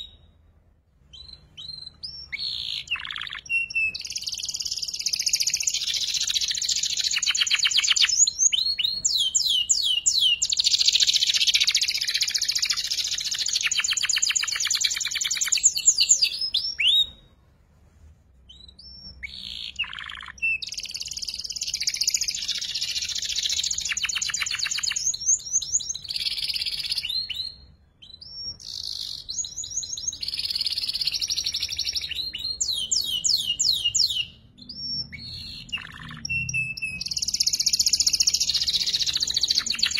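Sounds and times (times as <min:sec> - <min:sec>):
canary singing trills: 0:01.1 - 0:17.3, 0:18.5 - 0:39.9.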